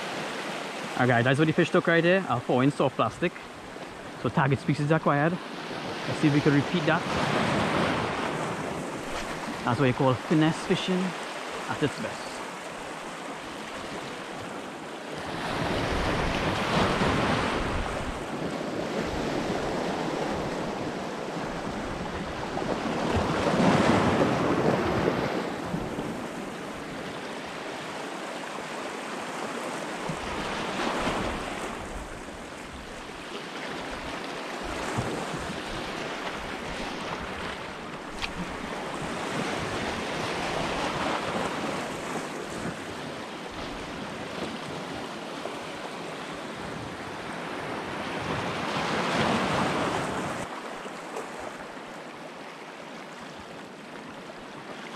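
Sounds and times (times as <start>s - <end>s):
sea waves washing over rocks: 0.0s - 46.7s.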